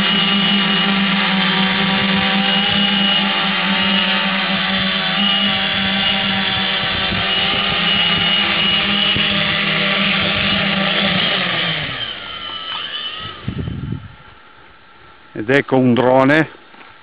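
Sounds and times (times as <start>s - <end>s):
drone buzzing: 0.0s - 15.4s.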